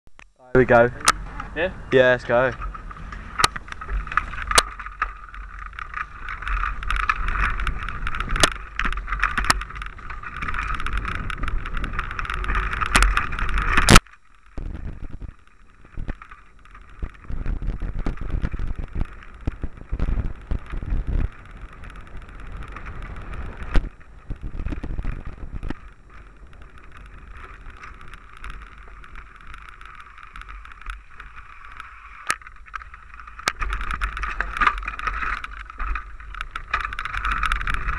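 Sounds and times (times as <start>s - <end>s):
mountain bike rattling on dirt trail: 0.6s - 37.9s.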